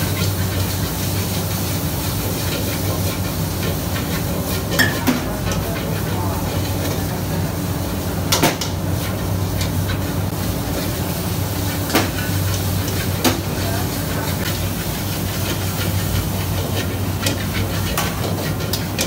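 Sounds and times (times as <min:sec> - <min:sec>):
gas burner and extractor rumble: 0:00.0 - 0:19.0
noodles sizzling: 0:00.0 - 0:19.0.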